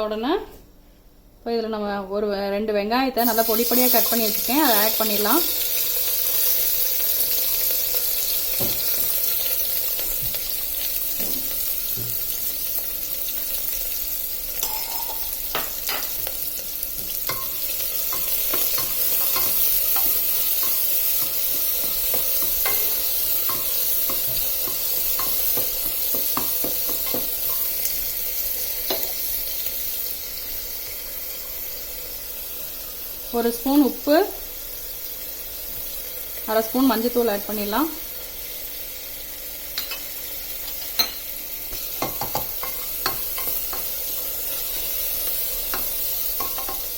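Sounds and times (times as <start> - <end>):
onions sizzling in hot oil: 3.2 - 46.9.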